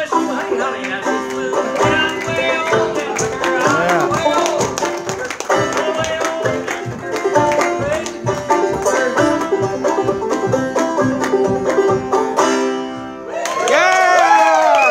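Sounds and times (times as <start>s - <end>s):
banjo playing: 0.0s - 13.4s.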